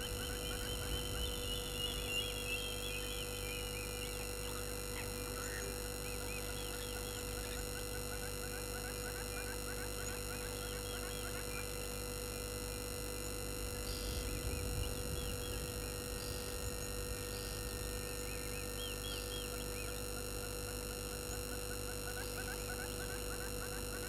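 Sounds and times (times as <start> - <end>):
electrical hum and whine: 0.0 - 24.0
faint bird chirps: 0.0 - 24.0.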